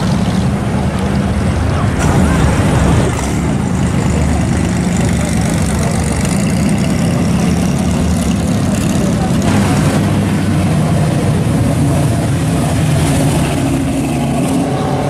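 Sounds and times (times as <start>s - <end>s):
car engines low exhaust rumble: 0.0s - 15.0s.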